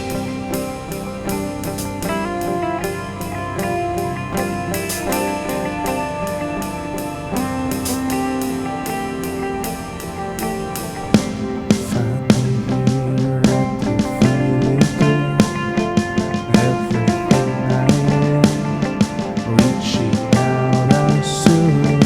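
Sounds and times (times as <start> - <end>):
drum kit beat: 0.0 - 22.0
guitar: 0.0 - 22.0.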